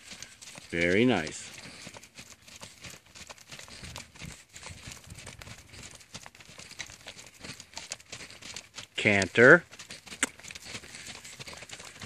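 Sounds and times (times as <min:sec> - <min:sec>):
soft hoofbeats on sand: 0:00.0 - 0:12.0.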